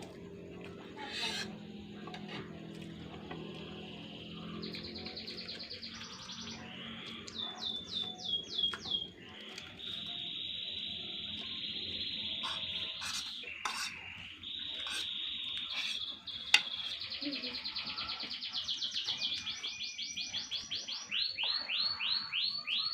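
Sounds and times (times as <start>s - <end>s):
birds chirping and trilling: 0.0s - 22.9s
buzzy bird trill: 0.8s - 2.2s, 3.9s - 22.9s.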